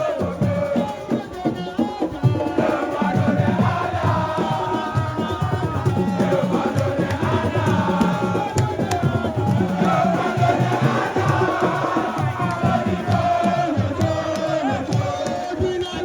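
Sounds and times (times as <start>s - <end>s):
drum rhythm: 0.0s - 16.0s
voices chanting: 0.0s - 16.0s.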